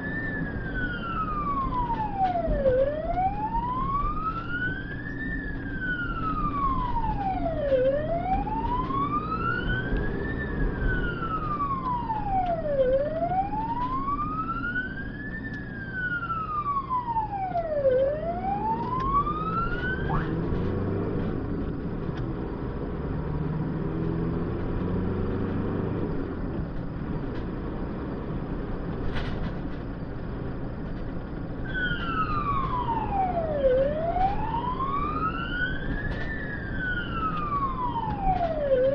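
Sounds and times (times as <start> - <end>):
ambulance siren wailing: 0.0 - 26.5, 31.0 - 38.9
engine and road noise: 0.0 - 38.9.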